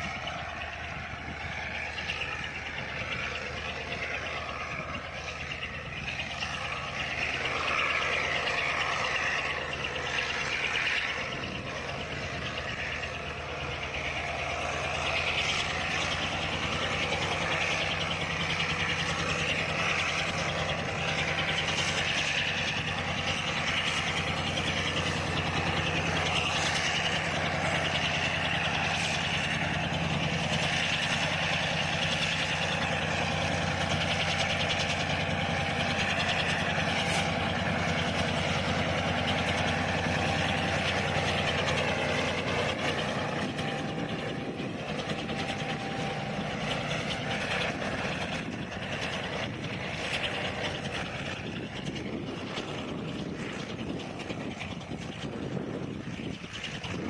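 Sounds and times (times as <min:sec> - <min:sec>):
freight cars rattling on rails: 0:00.0 - 0:57.0
locomotive engine running: 0:00.0 - 0:57.0.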